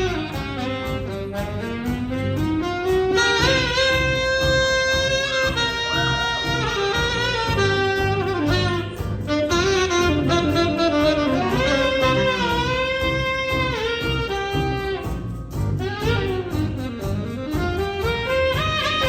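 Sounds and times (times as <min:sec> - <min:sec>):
bass line: 0:00.0 - 0:19.0
piano: 0:00.0 - 0:19.0
saxophones in close harmony: 0:00.0 - 0:19.0.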